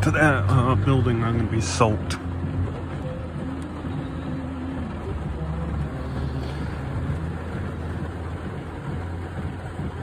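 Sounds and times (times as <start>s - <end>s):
engine idling: 0.0s - 10.0s
heavy rain on vehicle roof: 0.0s - 10.0s.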